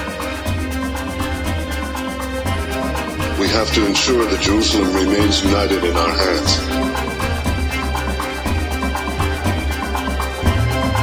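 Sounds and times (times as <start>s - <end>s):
music with quick steady beat: 0.0s - 11.0s.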